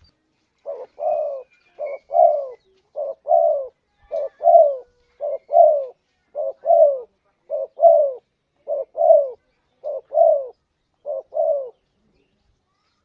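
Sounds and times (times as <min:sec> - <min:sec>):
dove cooing: 0:00.6 - 0:11.8.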